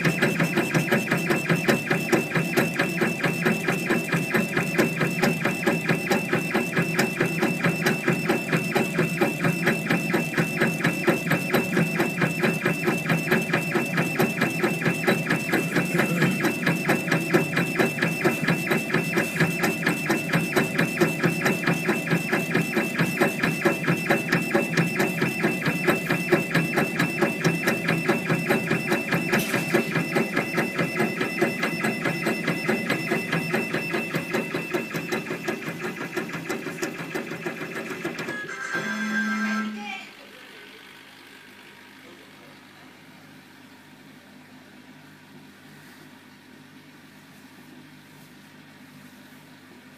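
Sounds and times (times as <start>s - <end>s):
engraver motors buzzing whine: 0.0s - 44.7s.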